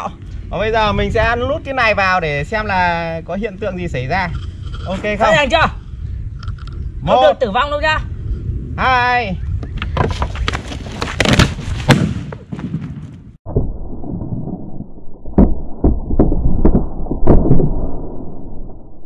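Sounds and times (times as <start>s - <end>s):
dull rumble: 0.0s - 11.7s, 13.3s - 19.0s.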